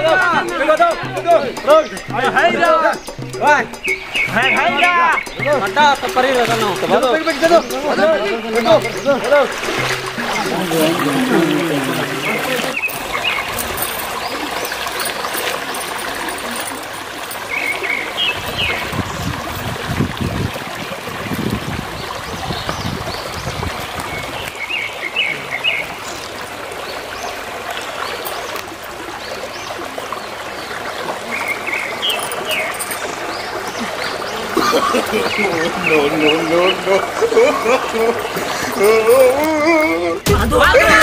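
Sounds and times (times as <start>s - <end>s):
stream trickling over rocks: 0.0s - 40.3s.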